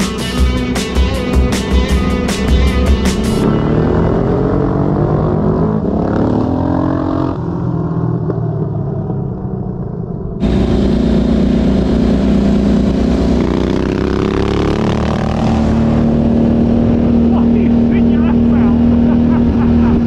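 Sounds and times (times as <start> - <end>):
motorcycle engines accelerating: 0.0 - 20.0.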